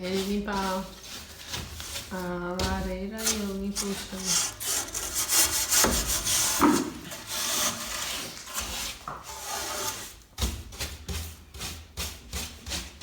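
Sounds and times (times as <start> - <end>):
tools scraping wood in fireplace: 0.0 - 11.2.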